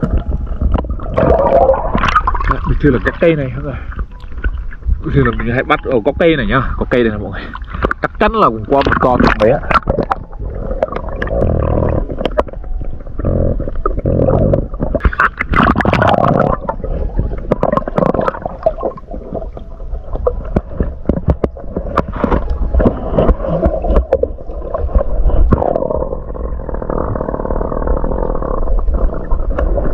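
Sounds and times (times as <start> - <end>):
underwater gurgling and bubbling: 0.0 - 29.9.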